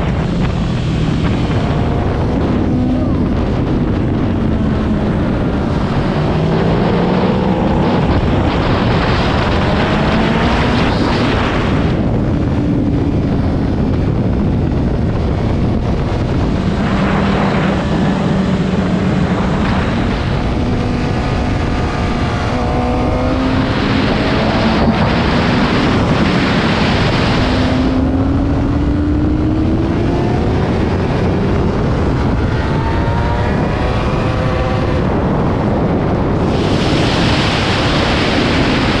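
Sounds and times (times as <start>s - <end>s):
motorcycle engine revving: 0.0s - 39.0s
wind rushing over microphone: 0.0s - 39.0s.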